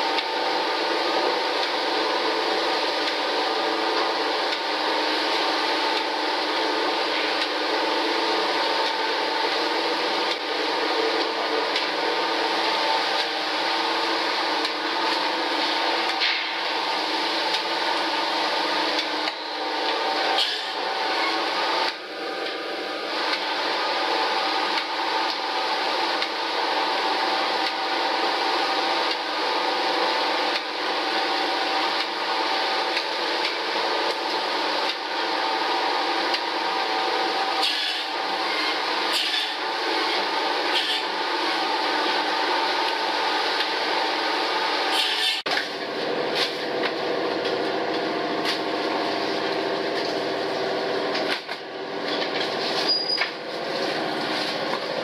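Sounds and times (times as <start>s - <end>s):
conveyors and processing machinery: 0.0s - 55.0s.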